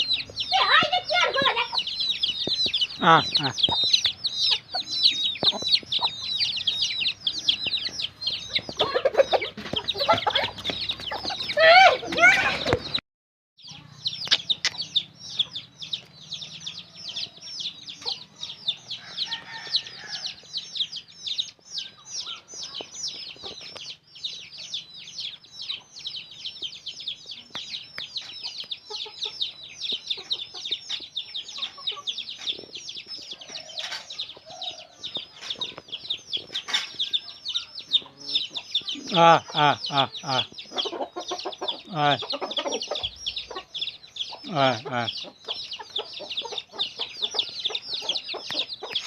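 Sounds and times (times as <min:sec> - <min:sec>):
parrot chicks calling: 0:00.0 - 0:13.0, 0:13.6 - 0:49.0.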